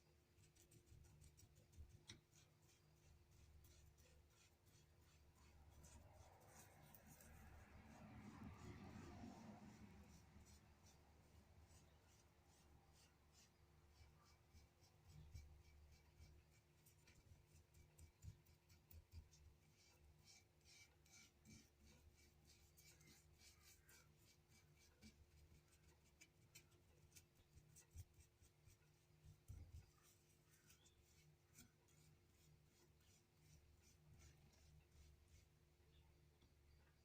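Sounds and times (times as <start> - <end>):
scratchy rubbing on metal: 0.0 - 35.9.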